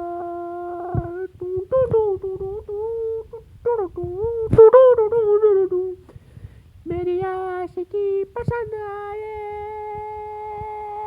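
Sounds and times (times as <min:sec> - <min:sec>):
person humming a melody: 0:00.0 - 0:06.0, 0:06.9 - 0:11.0.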